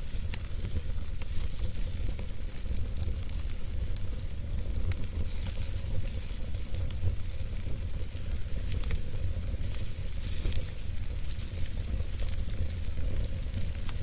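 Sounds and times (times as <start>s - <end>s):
fire crackling and popping: 0.0s - 14.0s
wood fire hissing and rumbling: 0.0s - 14.0s.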